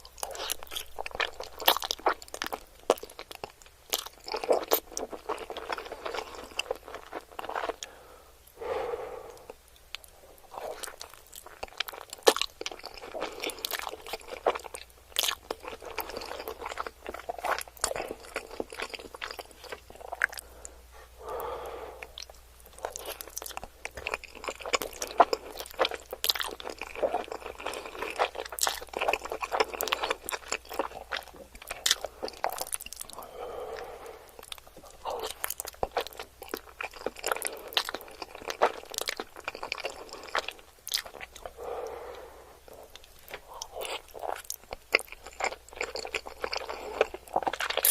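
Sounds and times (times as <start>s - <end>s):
chewing: 0.0s - 8.0s, 9.3s - 20.8s, 22.0s - 47.9s.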